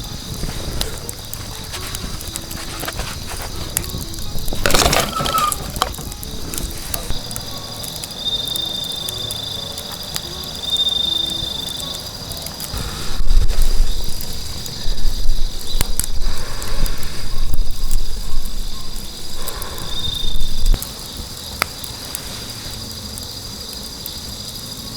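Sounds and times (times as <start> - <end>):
campfire crackling: 0.0 - 24.9
insects trilling: 0.0 - 24.9.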